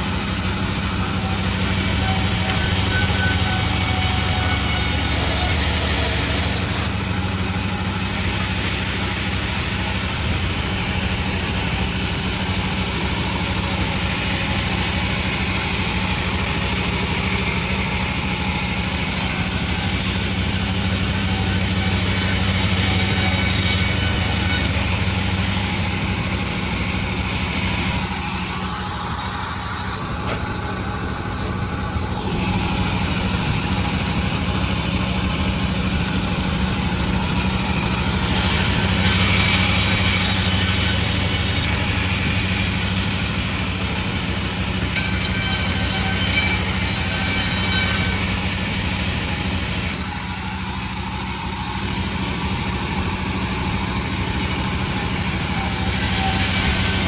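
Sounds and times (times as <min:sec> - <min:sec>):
high hiss of saw: 0:00.0 - 0:30.2, 0:37.3 - 0:52.4, 0:53.4 - 0:57.0
sawmill machine hum: 0:00.0 - 0:57.0.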